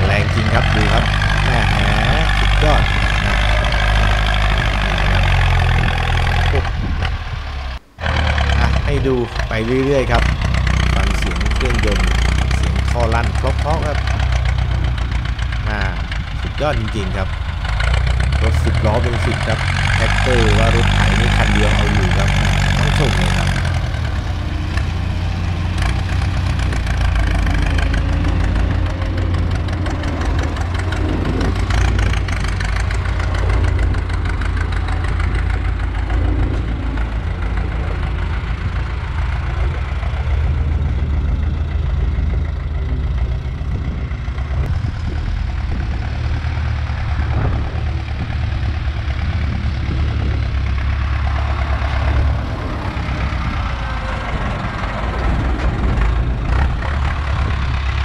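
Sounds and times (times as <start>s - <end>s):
diesel tractor engine under load: 0.0s - 58.0s.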